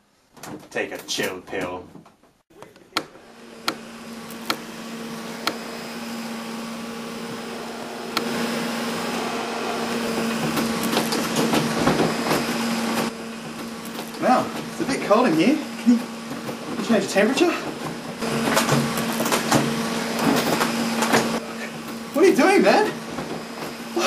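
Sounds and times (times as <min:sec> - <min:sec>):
air conditioner fan humming: 0:02.6 - 0:24.0.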